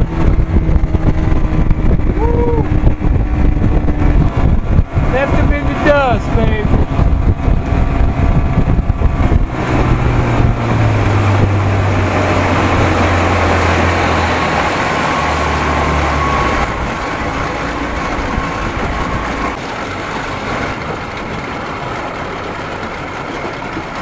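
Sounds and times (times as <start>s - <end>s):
outboard motor drone: 0.0s - 24.0s
wind and water rush: 0.0s - 24.0s.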